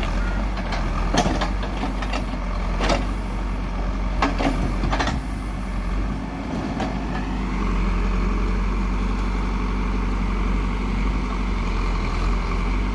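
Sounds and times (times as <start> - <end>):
heavy diesel engine running: 0.0 - 12.9.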